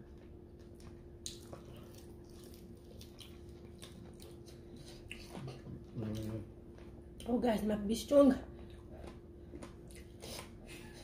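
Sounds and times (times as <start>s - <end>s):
mouth chewing and smacking: 0.0s - 7.3s, 8.5s - 11.0s
steady low hum: 0.0s - 11.0s.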